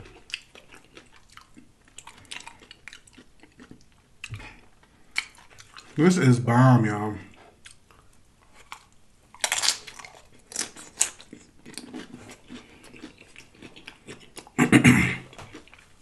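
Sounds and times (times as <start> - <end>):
chip crunching and chewing: 0.0 - 6.0, 7.6 - 14.6, 15.3 - 16.0.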